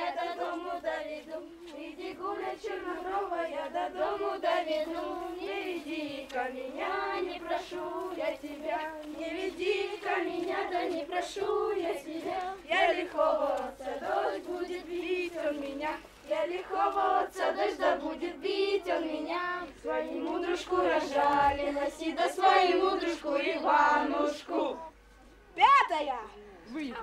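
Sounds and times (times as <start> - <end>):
children singing: 0.0 - 24.8.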